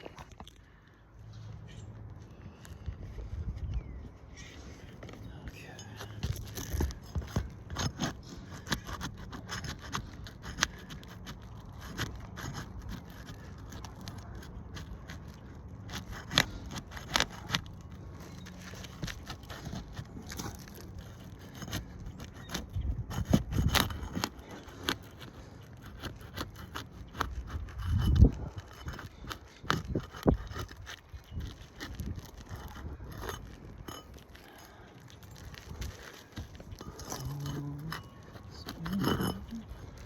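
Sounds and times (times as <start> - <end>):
hand tools scraping and clicking: 3.6 - 40.0.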